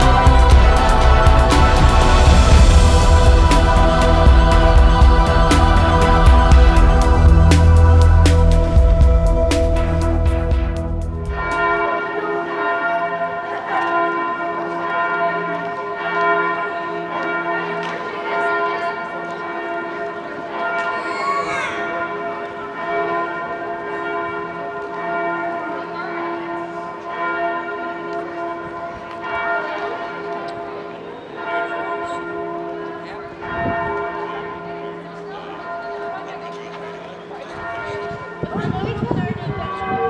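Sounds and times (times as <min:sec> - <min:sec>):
cathedral bells ringing: 0:00.0 - 0:40.0.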